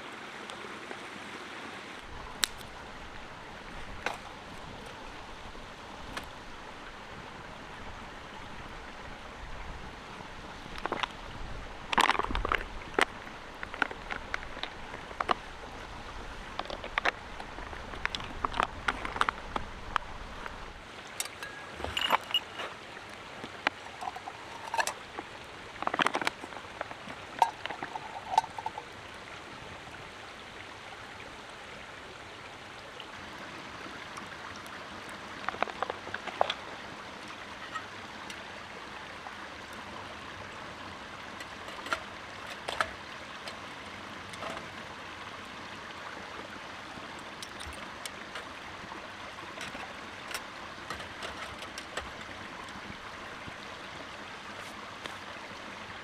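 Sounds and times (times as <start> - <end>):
rushing stream: 0.0 - 56.0.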